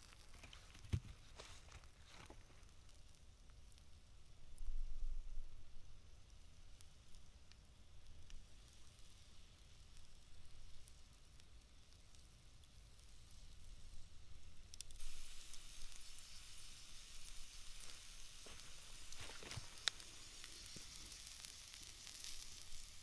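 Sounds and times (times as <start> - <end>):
fat crackling and popping: 0.0 - 23.0
meat sizzling over embers: 0.0 - 23.0.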